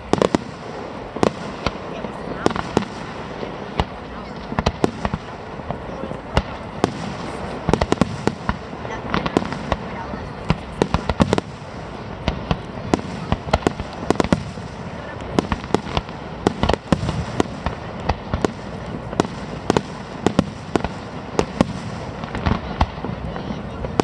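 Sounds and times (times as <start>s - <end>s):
fireworks bangs and crackling: 0.0s - 24.0s
rumble of explosions: 0.0s - 24.0s.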